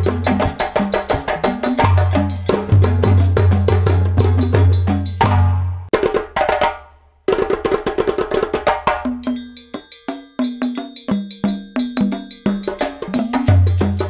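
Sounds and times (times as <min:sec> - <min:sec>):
percussion beat with pitched notes: 0:00.0 - 0:14.0.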